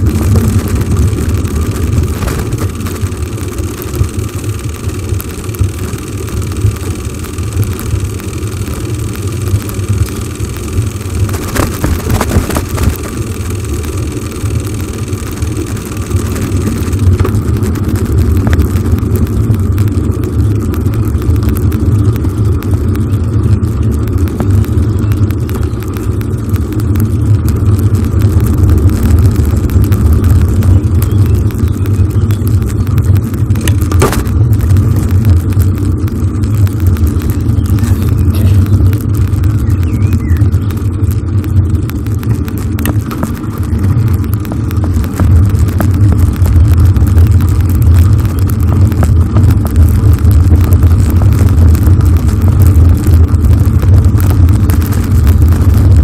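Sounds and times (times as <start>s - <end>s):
bicycle tyres rolling on asphalt: 0.0s - 56.0s
wind rumbling over microphone: 0.0s - 56.0s.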